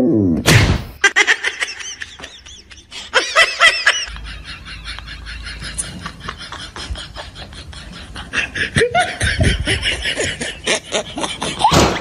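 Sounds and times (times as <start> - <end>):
person laughing: 1.0 - 12.0.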